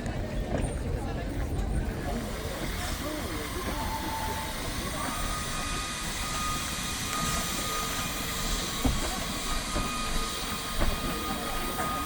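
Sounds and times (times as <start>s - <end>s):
steam hissing: 1.9s - 12.0s.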